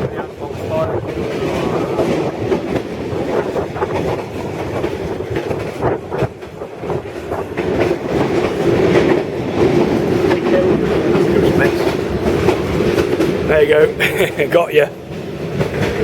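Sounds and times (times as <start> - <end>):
train carriage rumbling: 0.0 - 16.0
wheels clacking over rail joints: 0.0 - 16.0.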